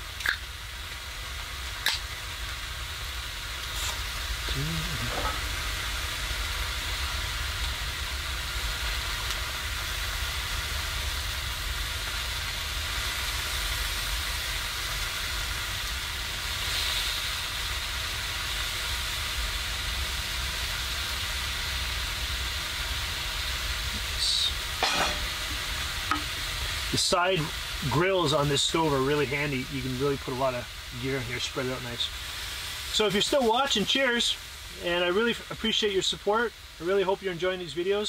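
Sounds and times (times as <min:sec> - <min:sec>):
butter sizzling in a pan: 0:00.0 - 0:38.0.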